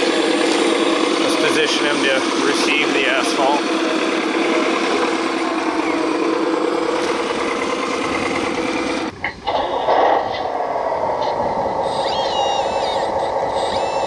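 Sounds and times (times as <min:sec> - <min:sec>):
simulated diesel engine sound: 0:00.0 - 0:14.0.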